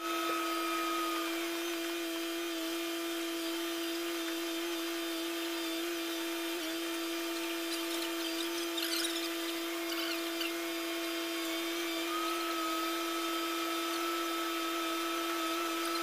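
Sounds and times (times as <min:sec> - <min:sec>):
crane engine and hydraulics whine: 0:00.0 - 0:16.0.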